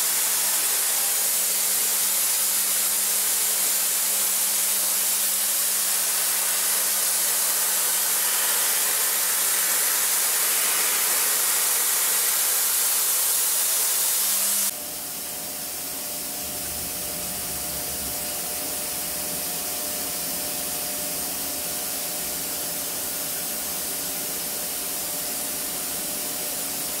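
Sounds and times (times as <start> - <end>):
machine hum: 0.0 - 27.0
milling machine hiss: 0.0 - 27.0.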